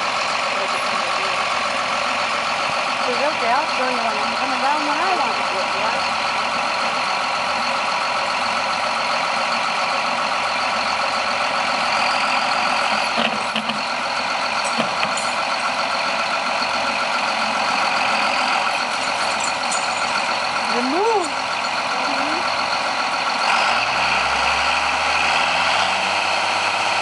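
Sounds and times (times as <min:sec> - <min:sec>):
diesel tractor engine idling: 0:00.0 - 0:27.0.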